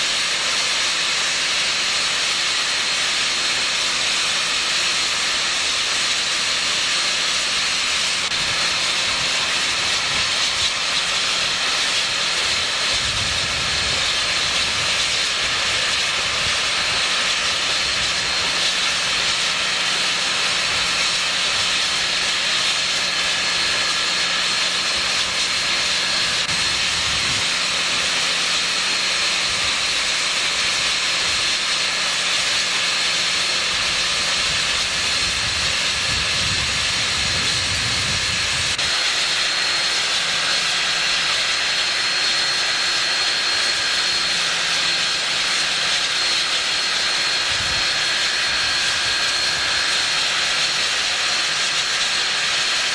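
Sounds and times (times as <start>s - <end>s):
steam locomotive hissing: 0.0s - 52.9s.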